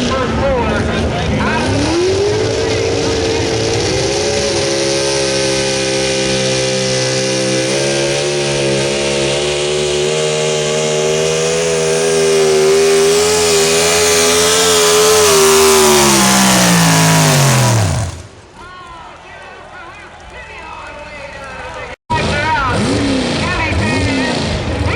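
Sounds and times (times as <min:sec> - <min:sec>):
truck engine at high revs: 0:00.0 - 0:18.6, 0:22.1 - 0:24.9.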